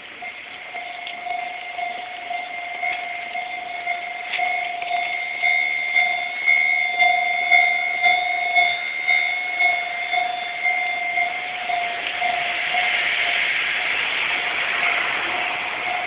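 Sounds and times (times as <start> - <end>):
passing train rushing: 0.0 - 16.0
railroad crossing bell ringing: 0.0 - 16.0.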